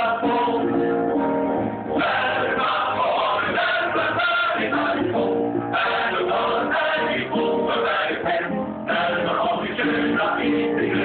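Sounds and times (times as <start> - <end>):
men singing in harmony: 0.0 - 0.7, 2.0 - 11.0.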